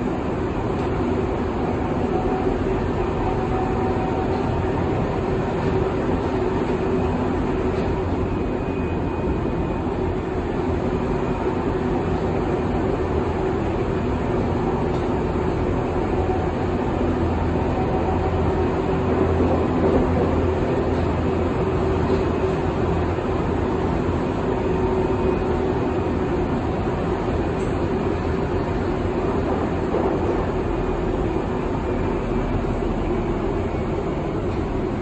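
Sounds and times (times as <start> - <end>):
constant hum: 0.0 - 35.0
train wheels rumbling on track: 0.0 - 35.0.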